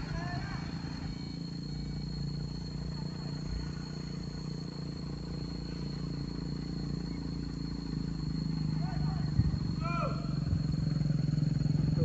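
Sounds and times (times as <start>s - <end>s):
vehicle engine running at low revs: 0.0s - 12.0s
thin steady high tone: 0.5s - 12.0s.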